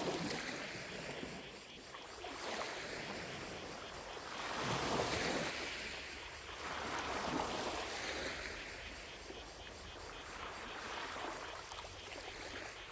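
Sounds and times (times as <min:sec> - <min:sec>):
lake waves washing on shore: 0:00.0 - 0:12.9.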